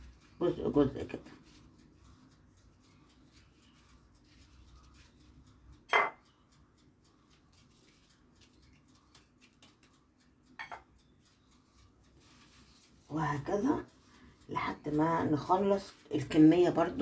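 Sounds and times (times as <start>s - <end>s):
pastry sheets rustling and crackling: 0.0s - 5.5s, 7.1s - 10.1s, 11.2s - 17.0s.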